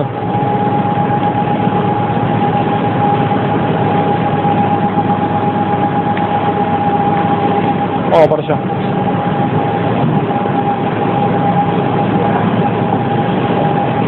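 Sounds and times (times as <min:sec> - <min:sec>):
subway train equipment humming: 0:00.0 - 0:14.0.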